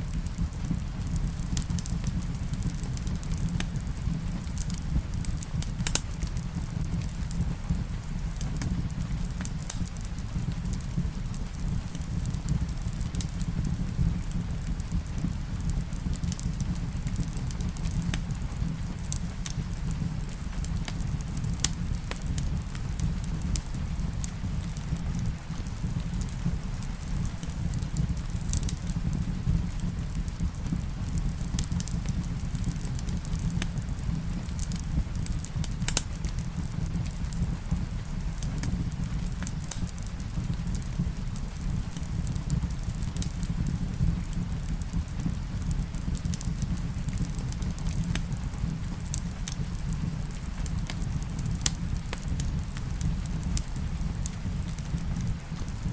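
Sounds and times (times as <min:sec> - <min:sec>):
steady low rumble: 0:00.0 - 0:55.9
wood fire burning: 0:00.0 - 0:55.9
logs crackling and popping: 0:00.1 - 0:55.9.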